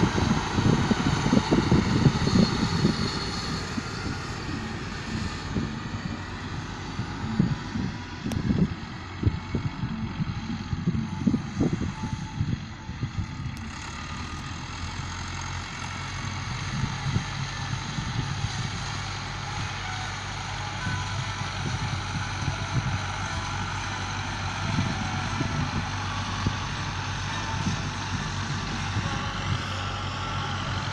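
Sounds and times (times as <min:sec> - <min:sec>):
diesel tractor engines droning: 0:00.0 - 0:30.9.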